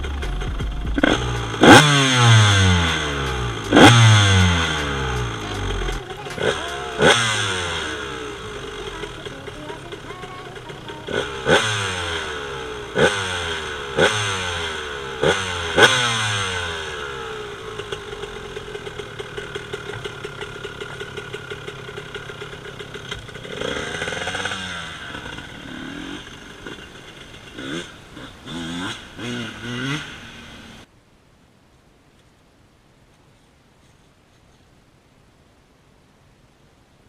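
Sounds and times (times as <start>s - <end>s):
motorcycle engine idling: 0.0s - 30.9s
motorcycle engine revving: 0.0s - 30.9s.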